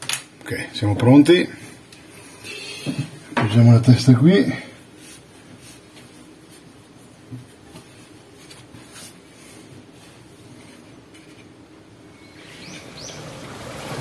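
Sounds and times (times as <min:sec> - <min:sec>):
faint rustling and handling noise: 0:00.4 - 0:11.8.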